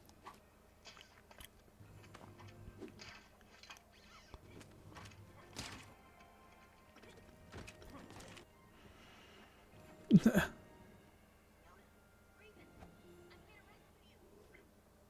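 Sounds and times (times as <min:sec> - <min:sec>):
quiet music: 0:00.0 - 0:15.0.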